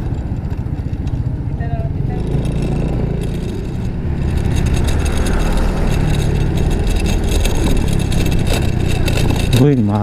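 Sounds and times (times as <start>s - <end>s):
motor scooter engine running: 0.0s - 10.0s
wind and road noise: 0.0s - 10.0s.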